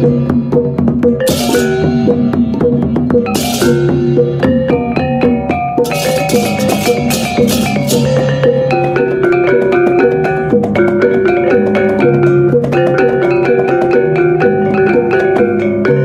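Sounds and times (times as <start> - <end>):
mallet-like melody: 0.0 - 16.0
ticking beat: 0.0 - 16.0.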